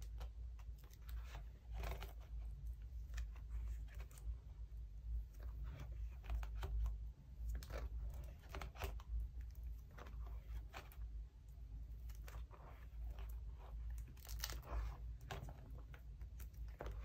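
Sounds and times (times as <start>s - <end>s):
plastic sleeves crinkling: 0.0s - 17.0s.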